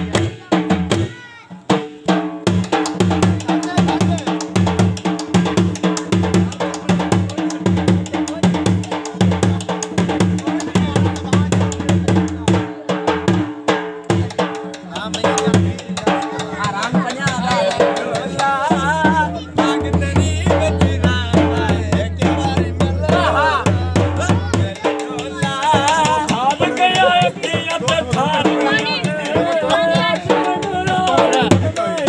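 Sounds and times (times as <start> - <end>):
dhol drum dance rhythm: 0.0 - 32.0.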